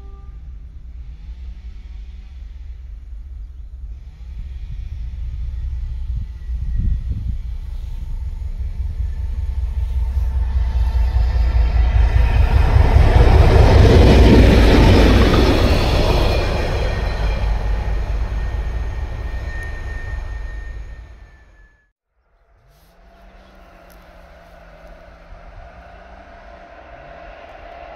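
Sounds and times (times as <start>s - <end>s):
diesel locomotive rumble: 0.0s - 21.6s, 22.9s - 27.9s
train wheels on rails: 0.0s - 21.7s, 22.7s - 27.9s.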